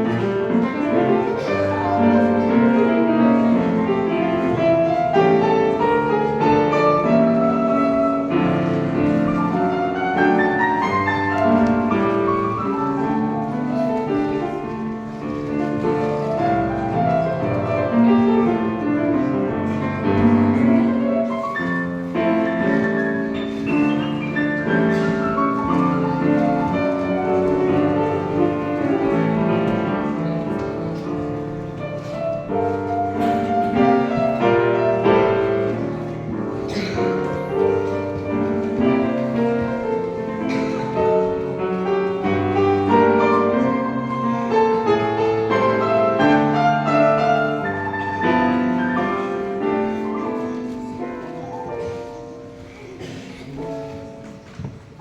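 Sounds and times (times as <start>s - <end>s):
solo piano playing: 0.0s - 52.8s.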